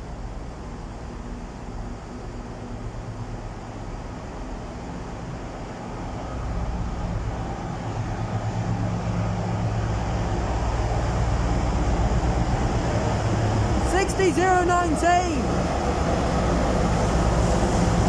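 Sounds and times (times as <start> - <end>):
diesel locomotive approaching: 0.0 - 18.0
diesel train engines idling: 0.0 - 18.0.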